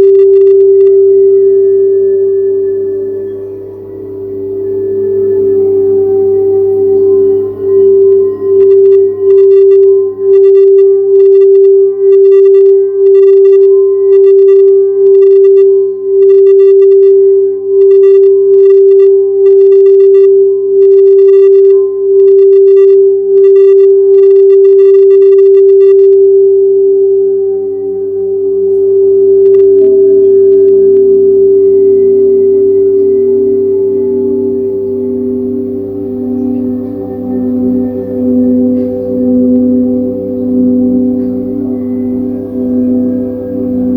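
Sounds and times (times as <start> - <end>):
lower bowl tone: 0.0 - 43.9
singing bowl tone: 0.0 - 43.9.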